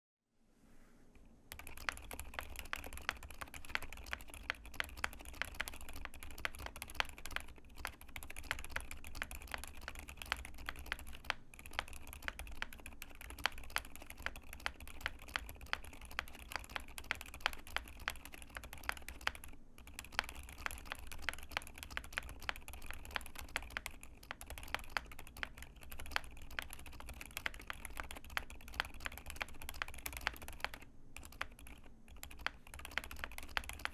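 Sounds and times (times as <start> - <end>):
mechanical keyboard typing: 1.5 - 33.9.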